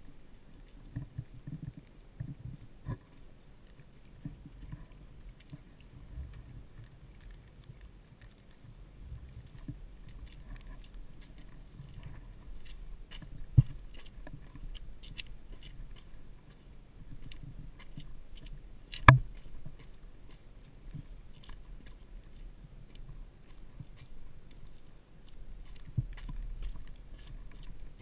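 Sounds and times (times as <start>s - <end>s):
small clicks and ticks: 0.0s - 28.0s.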